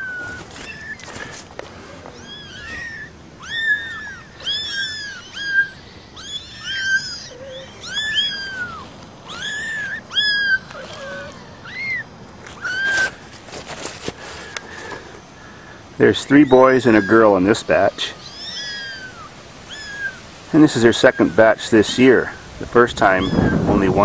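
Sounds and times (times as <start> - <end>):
kittens mewing: 0.0 - 21.6, 22.2 - 23.9.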